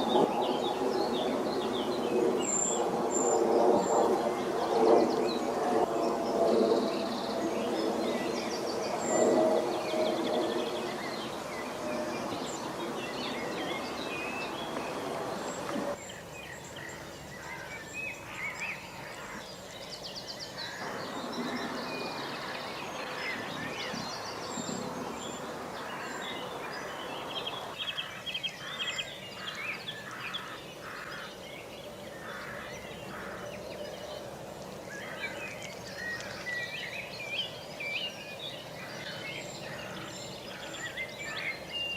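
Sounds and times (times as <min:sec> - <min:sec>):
outdoor background noise: 0:00.0 - 0:41.9
songbirds chirping and trilling: 0:00.0 - 0:41.9.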